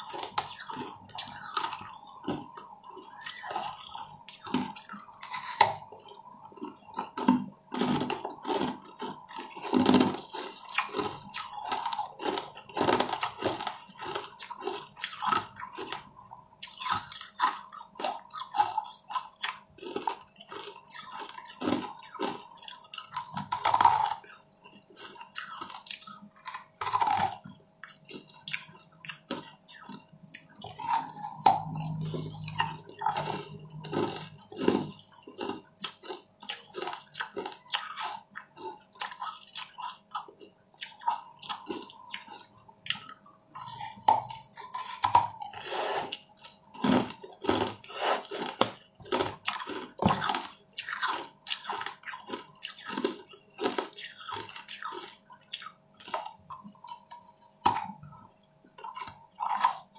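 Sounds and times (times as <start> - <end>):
person chewing wet food: 0.0 - 59.9.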